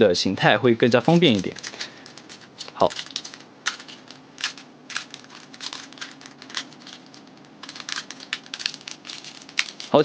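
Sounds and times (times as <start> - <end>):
plastic toy parts clicking: 0.9 - 10.0.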